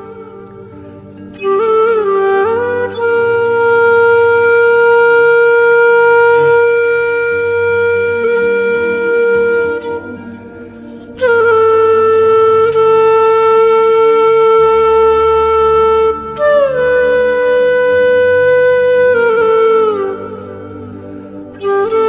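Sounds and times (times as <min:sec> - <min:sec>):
low sustained accompaniment: 0:00.0 - 0:22.0
wind instrument melody: 0:00.0 - 0:22.0.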